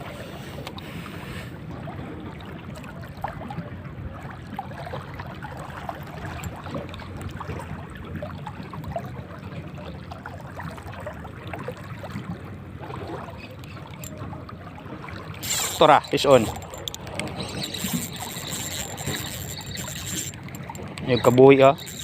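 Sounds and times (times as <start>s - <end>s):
seawater lapping and splashing: 0.0s - 22.0s.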